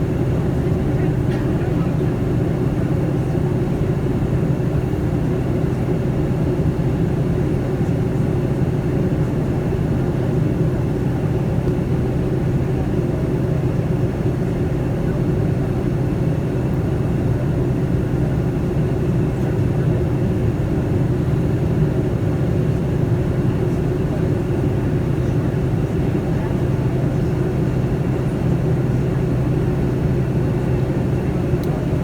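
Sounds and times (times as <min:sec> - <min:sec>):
airliner cabin engine drone: 0:00.0 - 0:32.0.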